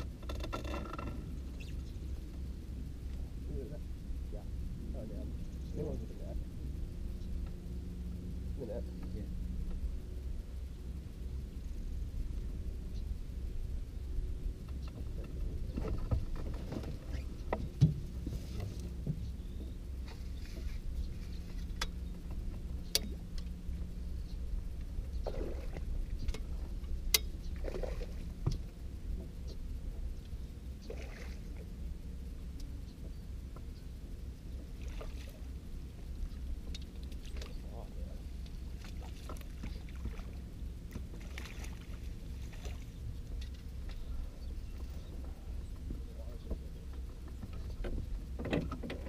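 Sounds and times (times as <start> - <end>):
low rumble and hum: 0.0 - 49.0.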